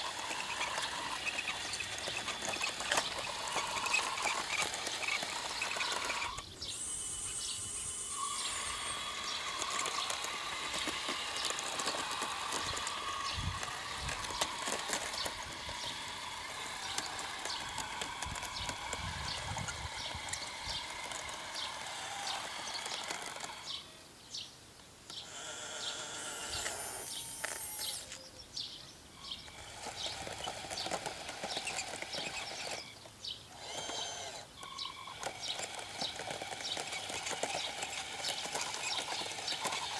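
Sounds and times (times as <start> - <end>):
electric drive gearing whine: 0.0 - 24.1, 25.1 - 28.3, 29.2 - 39.9.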